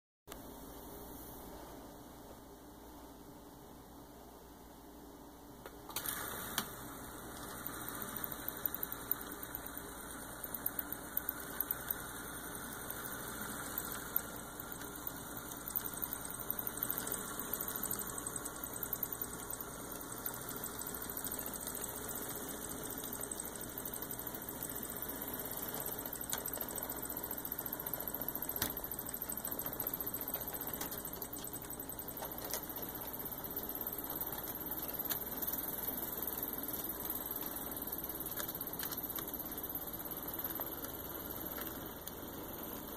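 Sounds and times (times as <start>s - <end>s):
model train running hum: 6.0s - 42.9s.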